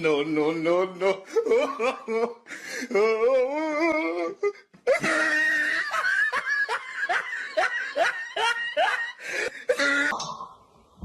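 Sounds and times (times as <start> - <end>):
person laughing hard: 1.2 - 10.2.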